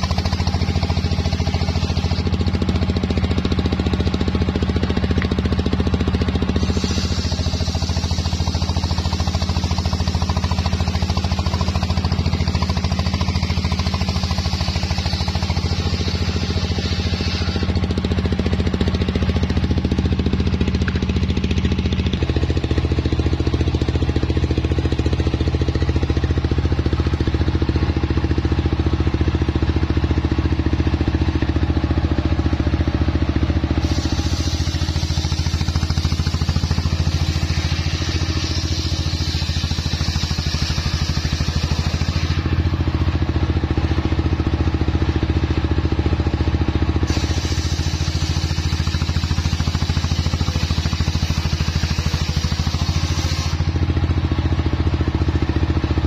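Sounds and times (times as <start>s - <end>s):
circular saw cutting log: 0.0s - 29.7s, 33.7s - 43.1s, 47.0s - 54.0s
engine running: 0.0s - 56.0s.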